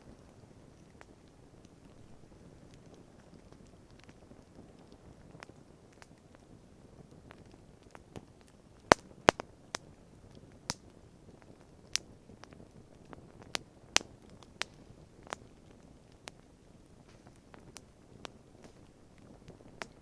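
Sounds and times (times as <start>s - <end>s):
campfire crackling and popping: 0.0s - 20.0s
faint low background noise: 0.0s - 20.0s.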